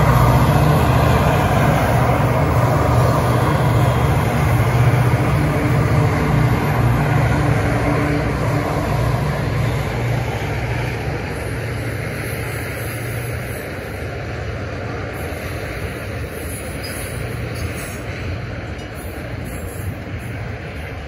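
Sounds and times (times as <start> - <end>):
diesel locomotive hum: 0.0 - 21.0
train wheels rumbling on rails: 0.0 - 21.0.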